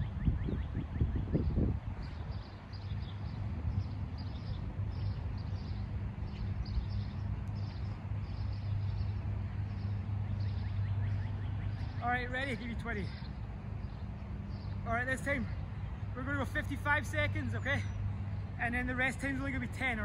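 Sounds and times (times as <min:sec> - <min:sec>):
distant machinery hum: 0:00.0 - 0:20.0
small birds chirping: 0:00.0 - 0:20.0.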